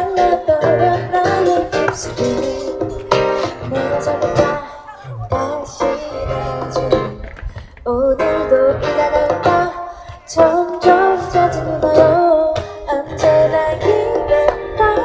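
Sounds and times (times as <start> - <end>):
acoustic band music: 0.0 - 15.0.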